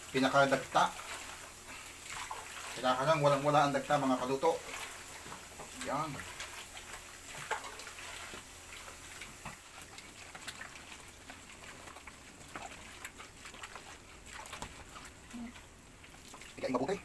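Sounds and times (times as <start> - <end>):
wet squelching in water: 0.4 - 17.0.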